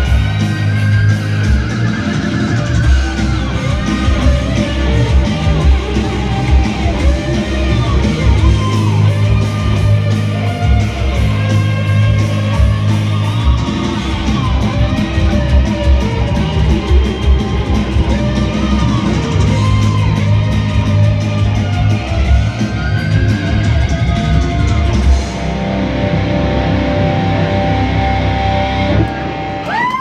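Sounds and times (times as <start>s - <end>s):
heavy metal band playing: 0.0s - 30.0s.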